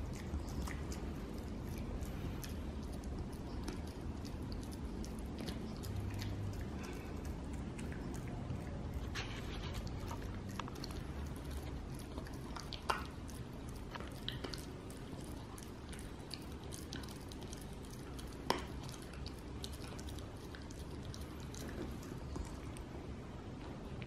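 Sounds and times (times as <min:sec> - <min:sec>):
dog chewing a treat: 0:00.0 - 0:23.0.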